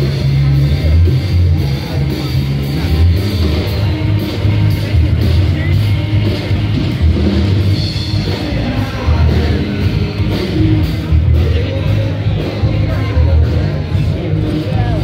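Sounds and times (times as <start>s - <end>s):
drums: 0.0s - 15.0s
heavy pulsing bass: 0.0s - 15.0s
live rock band playing: 0.0s - 15.0s
person singing: 0.0s - 15.0s.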